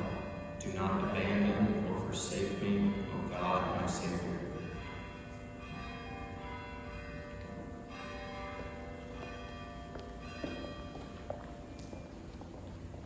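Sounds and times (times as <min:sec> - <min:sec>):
bells ringing: 0:00.0 - 0:13.0.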